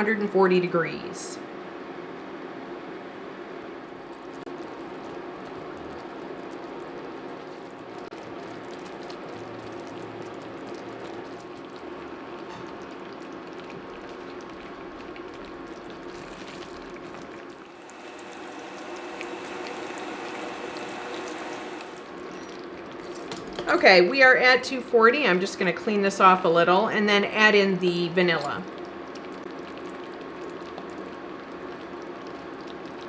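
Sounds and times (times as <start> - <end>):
steady hum: 0.0 - 33.0
caramel bubbling in a saucepan: 4.1 - 24.5, 25.5 - 33.0.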